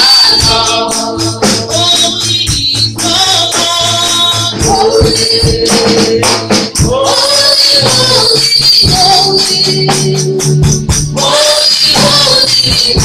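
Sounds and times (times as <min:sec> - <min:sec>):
drum kit: 0:00.0 - 0:13.0
tambourine shaken and struck: 0:00.0 - 0:13.0
women singing gospel: 0:00.0 - 0:13.0.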